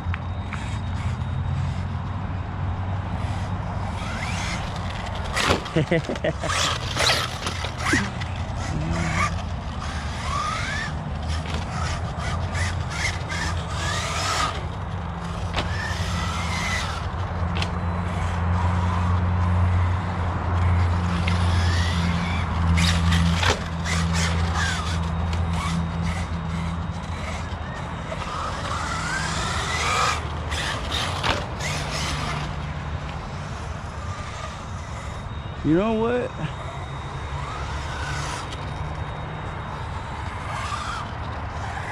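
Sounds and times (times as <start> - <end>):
electric motor whining: 0.0 - 41.9
steady low hum: 0.0 - 41.9
toy car clacking on ground: 3.2 - 35.2, 36.6 - 41.9.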